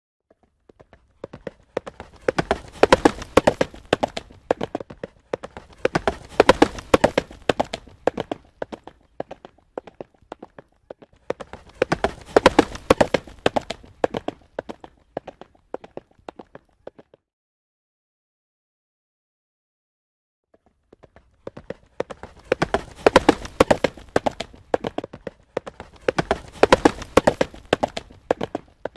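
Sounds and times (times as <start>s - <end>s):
horse hooves galloping: 0.3s - 17.2s, 20.6s - 28.9s.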